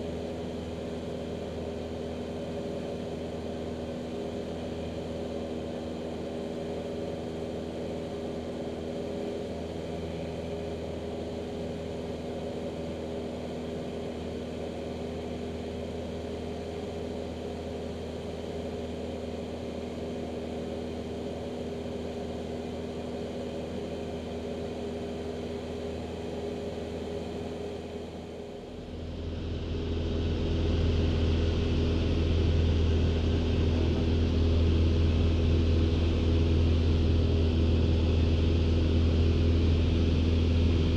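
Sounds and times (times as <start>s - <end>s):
light aircraft engine drone: 0.0s - 40.9s.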